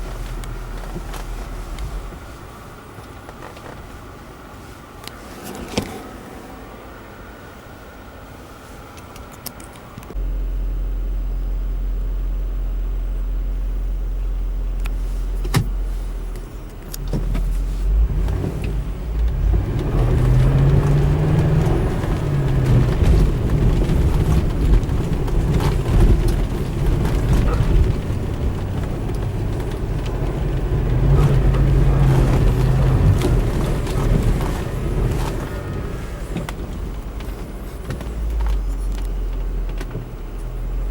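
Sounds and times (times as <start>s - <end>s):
engine rumbling under load: 0.0s - 40.9s
low engine drone: 5.1s - 40.9s.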